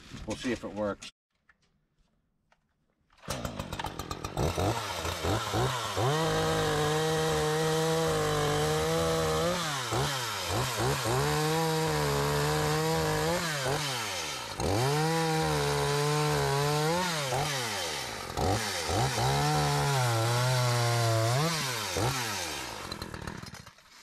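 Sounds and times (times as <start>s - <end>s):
chainsaw cutting wood: 3.1s - 24.0s
chainsaw throttle blips: 3.2s - 23.8s.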